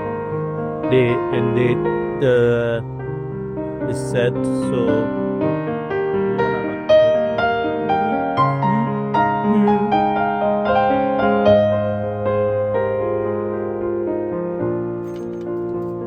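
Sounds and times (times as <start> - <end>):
soft piano melody with chords: 0.0 - 16.0.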